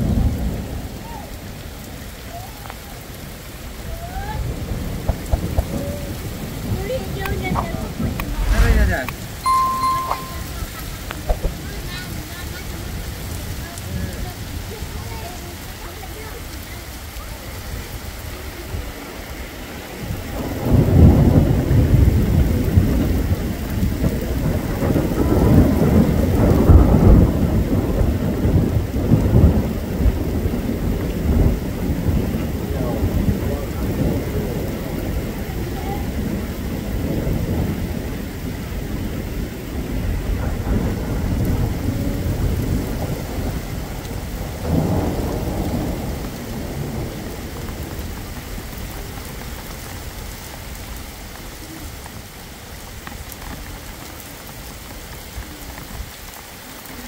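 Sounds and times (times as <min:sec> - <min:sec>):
thunder rumbling: 0:00.0 - 0:15.0, 0:18.2 - 0:53.4
rain falling: 0:00.0 - 0:57.0.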